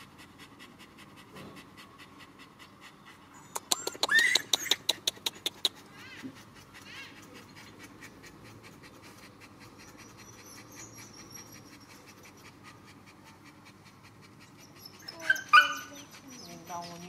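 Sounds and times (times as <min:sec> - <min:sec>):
small dog panting: 0:00.0 - 0:17.0.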